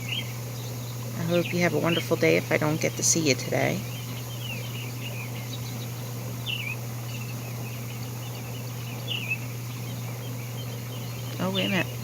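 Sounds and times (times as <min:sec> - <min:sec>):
birds chirping and trilling: 0:00.0 - 0:12.0
steady low hum: 0:00.0 - 0:12.0.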